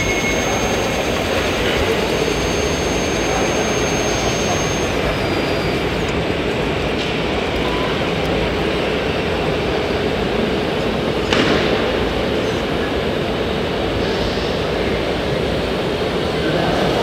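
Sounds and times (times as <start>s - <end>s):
model construction machines running: 0.0s - 14.0s.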